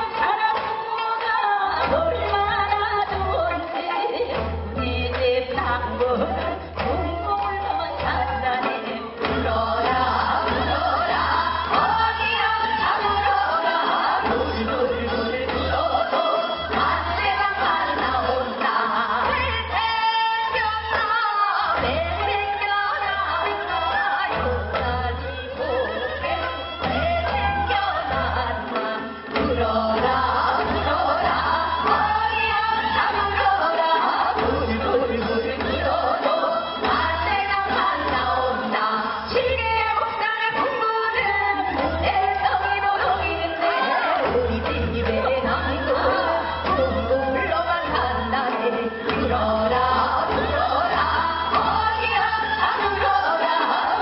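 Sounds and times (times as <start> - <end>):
bowed fiddle: 0.0 - 54.0
women singing folk song: 0.0 - 54.0
traditional wind instruments: 6.0 - 39.2, 40.4 - 54.0.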